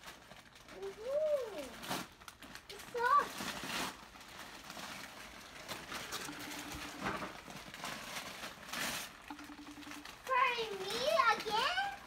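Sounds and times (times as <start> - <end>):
wrapping paper rustling: 0.0 - 12.0.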